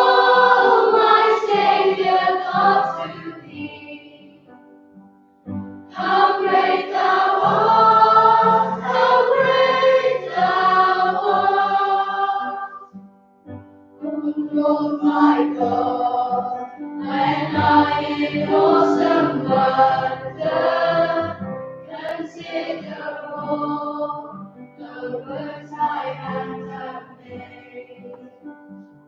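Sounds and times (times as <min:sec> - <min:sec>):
children's choir singing: 0:00.0 - 0:04.4, 0:05.9 - 0:13.0, 0:14.0 - 0:28.2.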